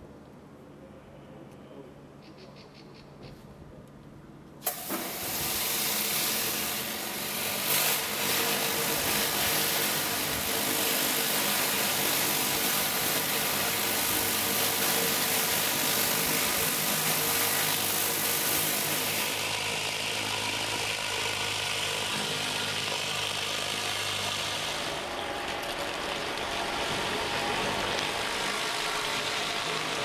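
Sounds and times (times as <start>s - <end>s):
high-pressure water jets hissing: 4.6s - 30.0s
pressure washer motor humming: 4.6s - 30.0s.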